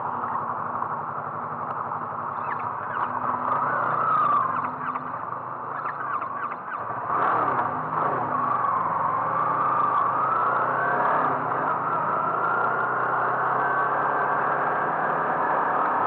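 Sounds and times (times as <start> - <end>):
motor vehicle running: 0.0 - 16.0.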